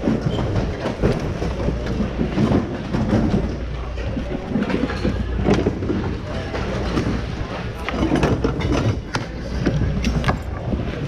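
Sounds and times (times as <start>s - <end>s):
shopping carts rattling on hard floor: 0.0s - 10.3s
goods clattering: 0.0s - 11.0s.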